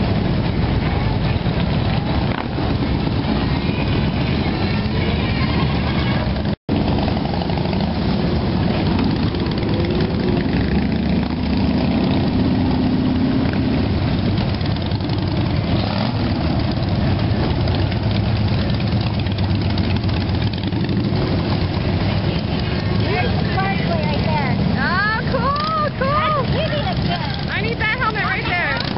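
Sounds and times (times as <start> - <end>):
motorcycle engines idling: 0.0 - 28.9.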